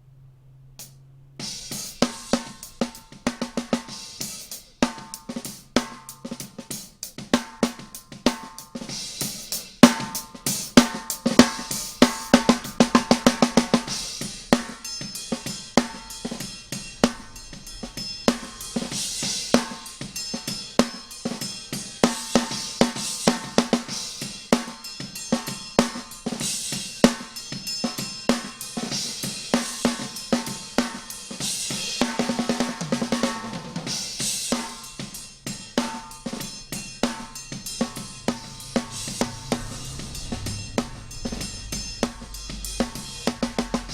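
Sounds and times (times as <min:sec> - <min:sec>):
drum kit playing a beat: 0:00.8 - 0:43.9.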